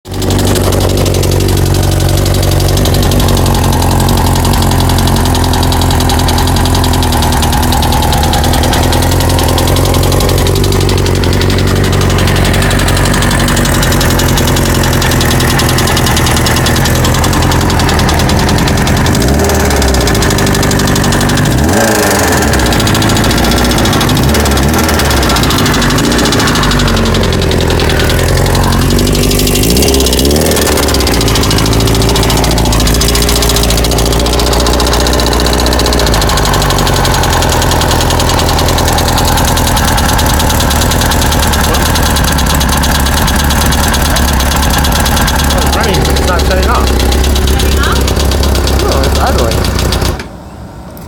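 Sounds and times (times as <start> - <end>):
motorcycle engine revving: 0.0 - 50.3
motorcycle engine idling with knocking: 0.0 - 50.4.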